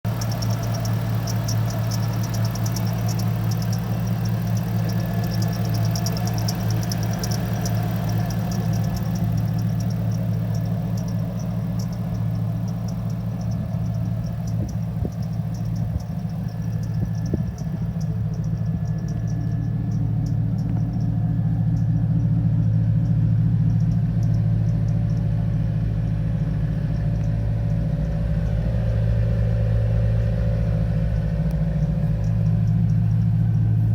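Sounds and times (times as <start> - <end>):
truck engine idling: 0.0 - 33.9
fast light ticking: 0.1 - 33.9.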